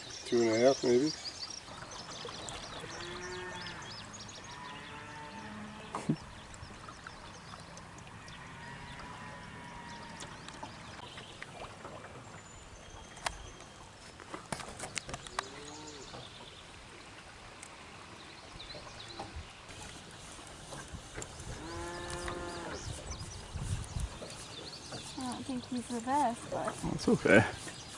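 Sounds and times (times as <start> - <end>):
flowing river water: 0.0 - 27.9.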